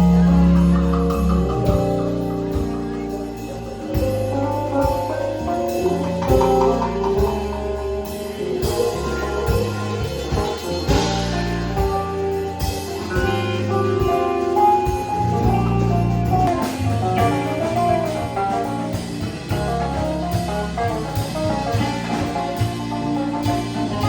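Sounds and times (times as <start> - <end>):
bass line: 0.0 - 24.0
drum kit: 0.0 - 24.0
guitar: 0.0 - 24.0.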